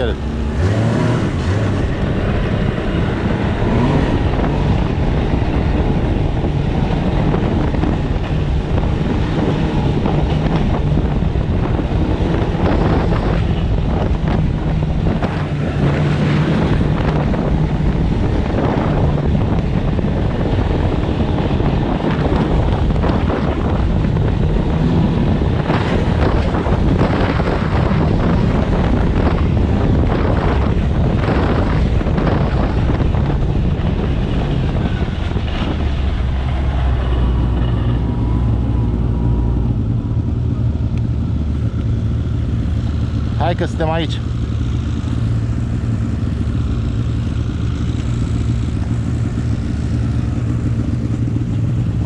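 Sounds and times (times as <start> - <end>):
snowmobile engine running: 0.0 - 52.0
wind buffeting microphone: 0.0 - 52.0.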